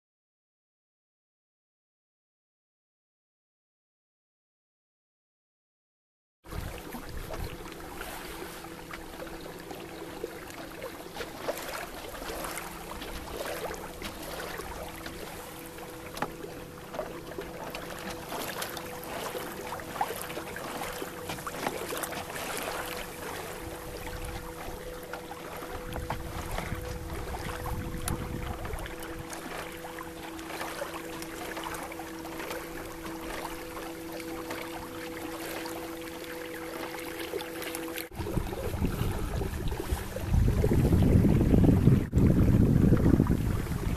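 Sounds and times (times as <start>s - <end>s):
water lapping against canoe hull: 6.5s - 43.9s.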